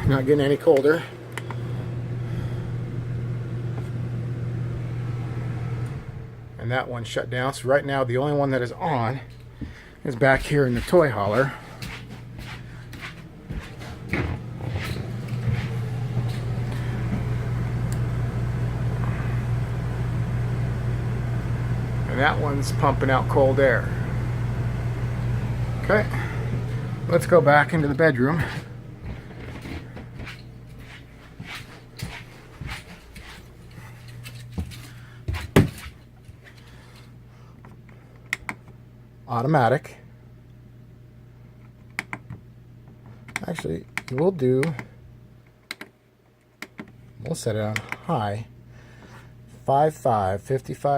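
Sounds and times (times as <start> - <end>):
air conditioner humming: 0.0 - 50.9.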